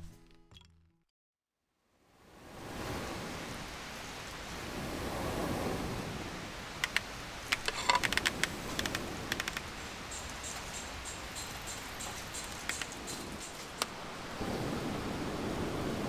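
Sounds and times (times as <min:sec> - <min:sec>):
campfire rushing noise: 0:03.0 - 0:16.0.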